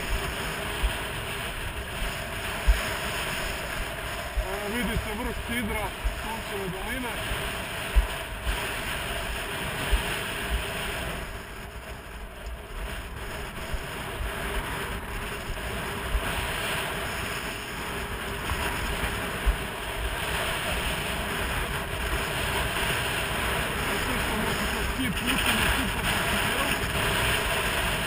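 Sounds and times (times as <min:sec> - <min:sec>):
skis hissing over snow: 0:00.0 - 0:28.0
wind rushing over microphone: 0:00.0 - 0:28.0.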